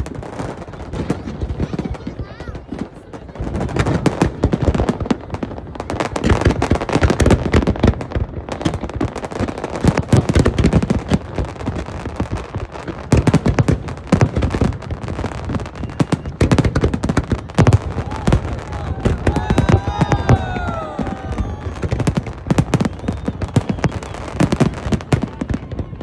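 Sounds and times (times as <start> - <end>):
fireworks bangs and crackling: 0.0 - 26.0
heavy firework booms: 0.0 - 26.0.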